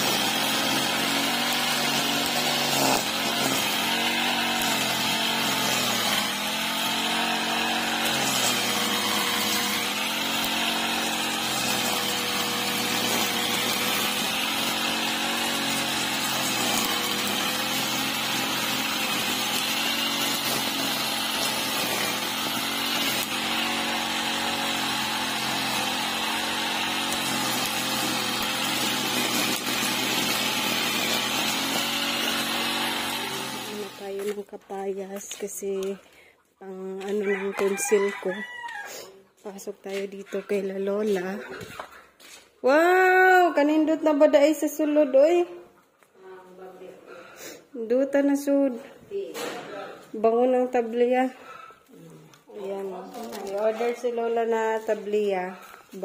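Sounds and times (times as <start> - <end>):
brush cutter cutting grass: 0.0 - 36.0, 36.6 - 39.0, 39.6 - 41.4, 49.4 - 56.0.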